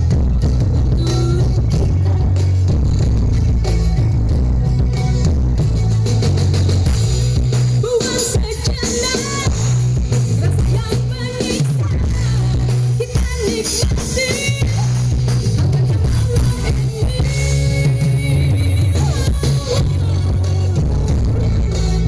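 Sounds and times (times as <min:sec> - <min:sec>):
loud music with booming bass: 0:00.0 - 0:22.0
person singing: 0:00.8 - 0:05.2, 0:07.8 - 0:22.0.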